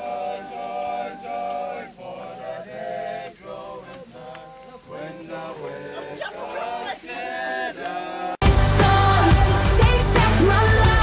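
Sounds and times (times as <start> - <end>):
voices singing slow song: 0.0 - 11.0.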